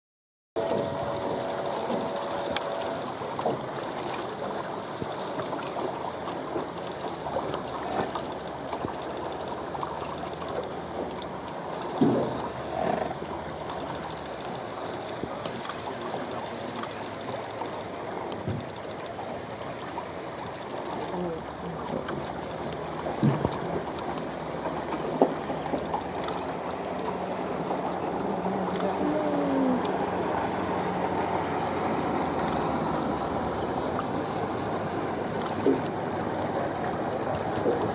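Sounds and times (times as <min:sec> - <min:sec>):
moving water: 0:00.6 - 0:37.9.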